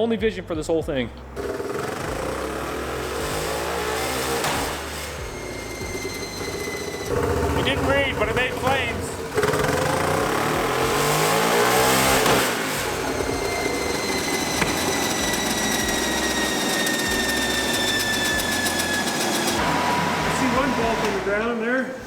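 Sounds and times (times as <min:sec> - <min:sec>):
drivetrain whine spinning down: 0:00.9 - 0:22.0
engine revving: 0:00.9 - 0:22.0.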